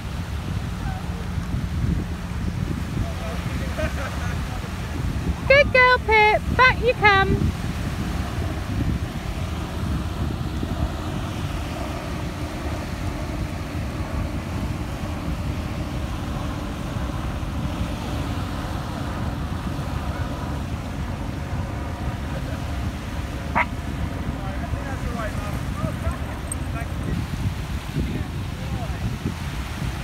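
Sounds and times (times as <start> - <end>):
waves washing on shingle: 0.0 - 30.0
wind buffeting microphone: 0.0 - 30.0.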